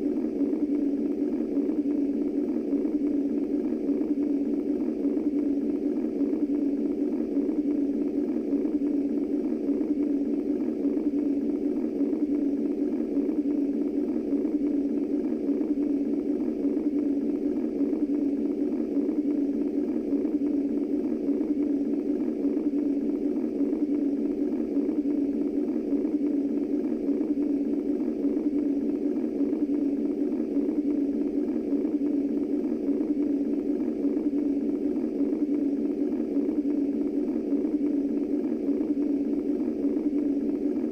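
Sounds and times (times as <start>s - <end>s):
muffled rushing white noise: 0.0s - 40.9s.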